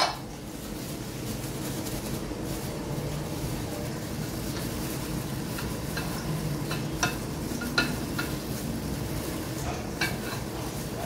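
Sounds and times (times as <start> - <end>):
plastic bag rustling: 0.0 - 11.0
flour shaken into bowl: 0.2 - 11.0.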